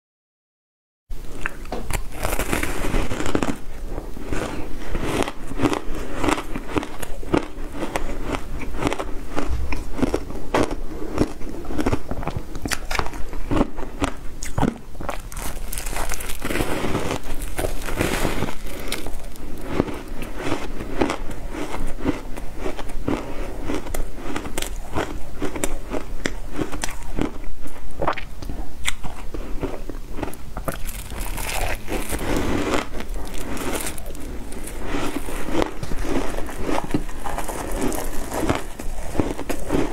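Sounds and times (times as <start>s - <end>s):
ice being chewed crunchily: 1.3s - 39.9s.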